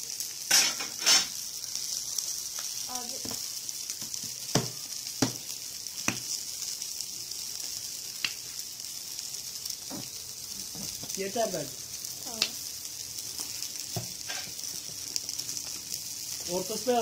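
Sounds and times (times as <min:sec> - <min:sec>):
burgers sizzling on a grill: 0:00.0 - 0:17.0.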